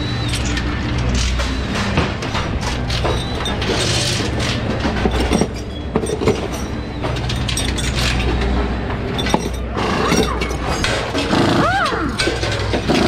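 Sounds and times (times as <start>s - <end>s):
metal tools clanking on exhaust pipes: 0.0s - 13.0s.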